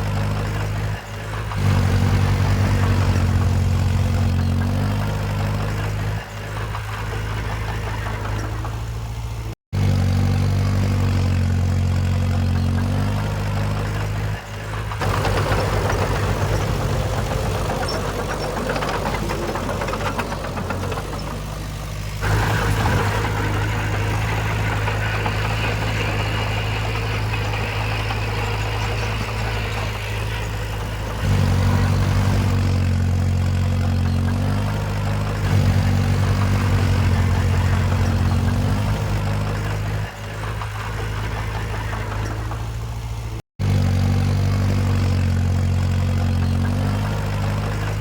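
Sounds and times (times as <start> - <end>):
earthmoving machine diesel engines: 0.0 - 48.0.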